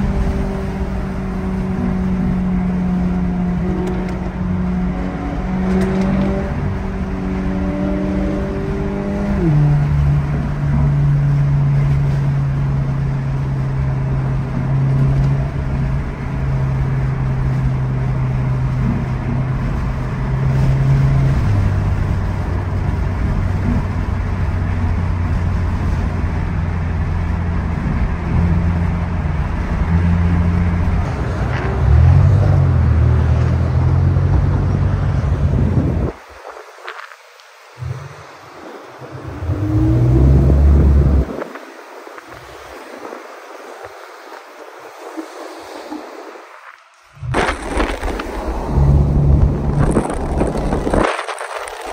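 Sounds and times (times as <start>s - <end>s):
car engine drone: 0.0s - 51.9s
tyre and road noise: 0.0s - 51.9s.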